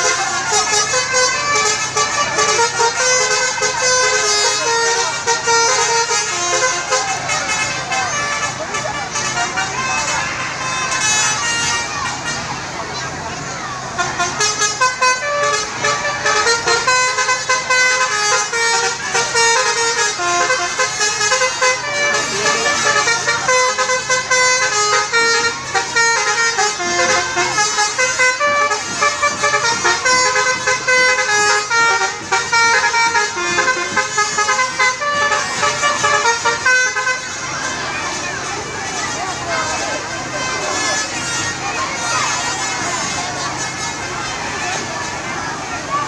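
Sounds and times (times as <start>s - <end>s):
multi-tone bus horn melody: 0.0s - 46.0s.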